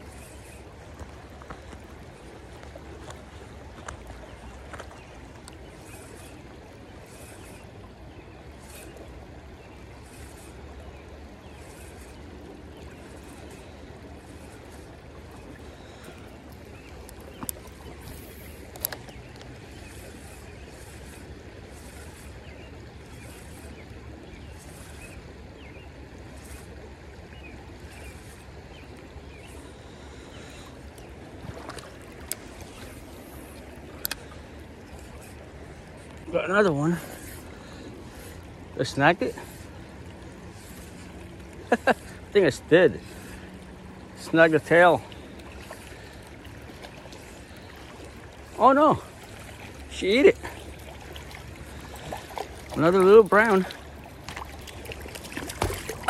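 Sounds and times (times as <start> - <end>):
creek flowing over stones: 0.0 - 56.0.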